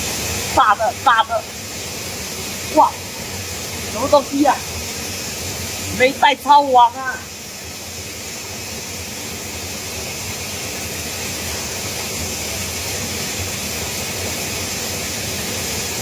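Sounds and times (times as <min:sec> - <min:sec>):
waterfall rushing hiss: 0:00.0 - 0:16.0.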